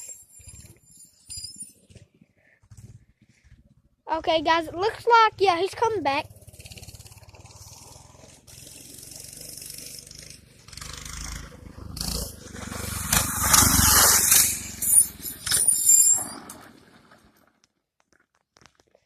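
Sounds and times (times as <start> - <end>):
mini bike engine pulsing: 1.8 - 17.4.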